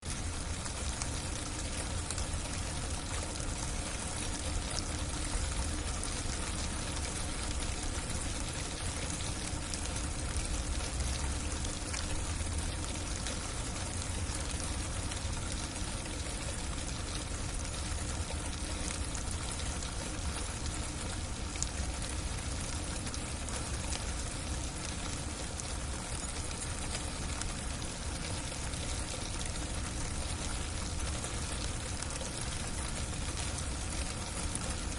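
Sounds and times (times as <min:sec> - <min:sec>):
icy rain pattering on a roof: 0:00.0 - 0:34.9.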